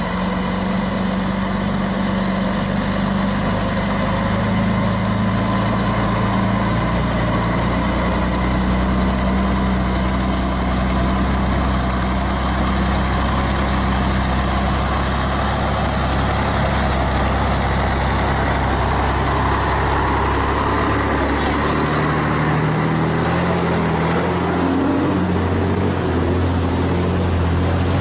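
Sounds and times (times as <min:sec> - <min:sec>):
truck diesel engine droning: 0:00.0 - 0:28.0.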